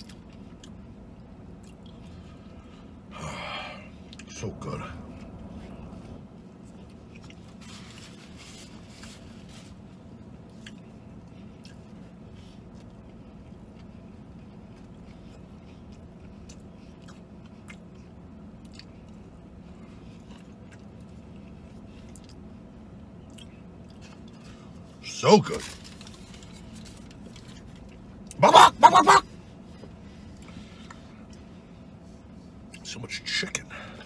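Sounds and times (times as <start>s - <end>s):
person chewing crispy food: 0.0s - 4.3s, 5.0s - 29.2s
steady low hum: 0.0s - 34.0s.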